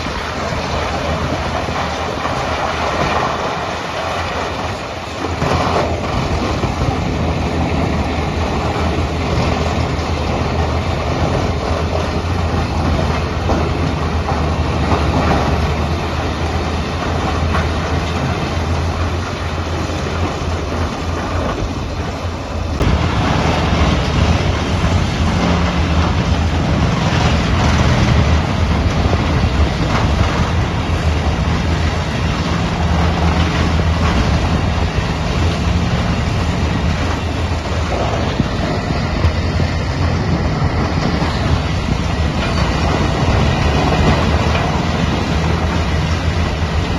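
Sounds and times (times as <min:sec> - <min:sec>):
engine drone: 0:00.0 - 0:46.9.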